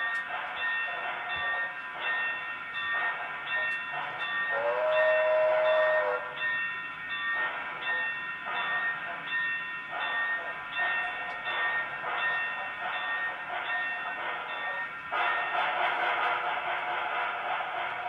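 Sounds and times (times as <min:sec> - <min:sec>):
model locomotive sound tones: 0:00.0 - 0:18.0.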